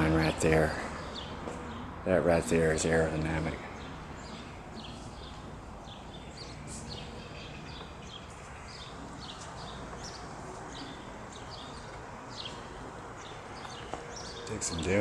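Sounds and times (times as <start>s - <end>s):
small birds chirping: 0.0s - 15.0s
steady background noise: 0.0s - 15.0s.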